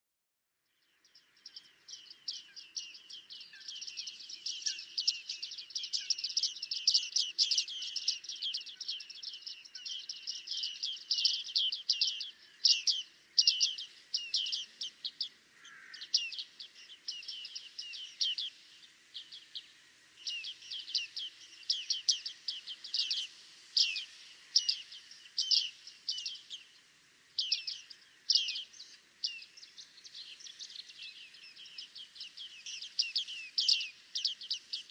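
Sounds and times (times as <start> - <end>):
birds giving high-pitched calls: 1.4 - 26.8, 27.4 - 34.9.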